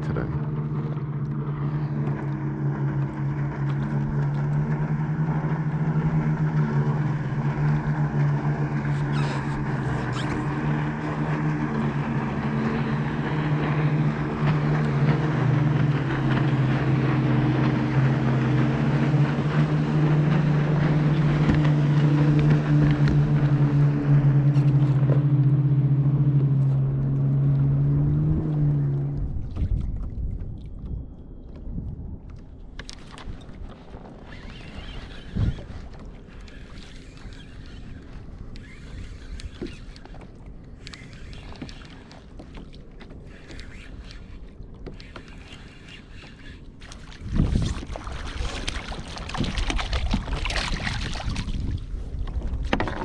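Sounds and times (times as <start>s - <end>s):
motorboat engine humming: 0.0s - 53.0s.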